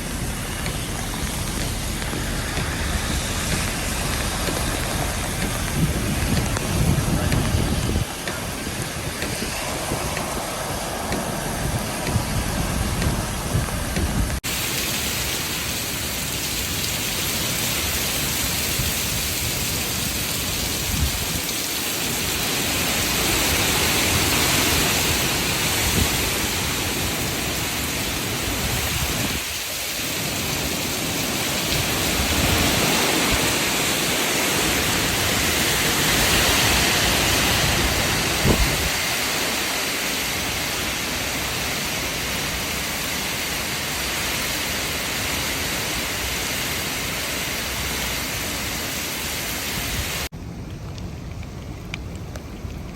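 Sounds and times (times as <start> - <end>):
heavy rain: 0.0 - 52.9
wind: 0.0 - 52.9.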